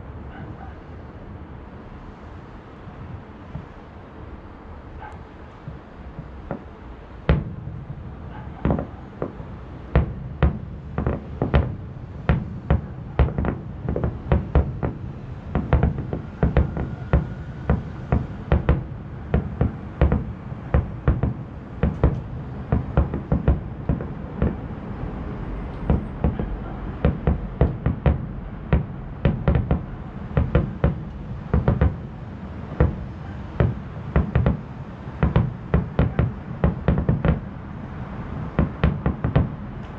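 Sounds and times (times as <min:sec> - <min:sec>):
fireworks booming: 0:05.5 - 0:39.9
low rumble: 0:05.6 - 0:39.9.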